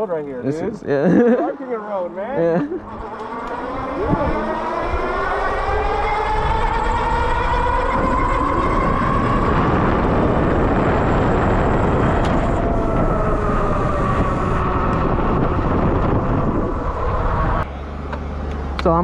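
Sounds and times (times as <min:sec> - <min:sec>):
electric bike motor whining: 0:01.4 - 0:17.7
wind rush on microphone: 0:02.4 - 0:17.7.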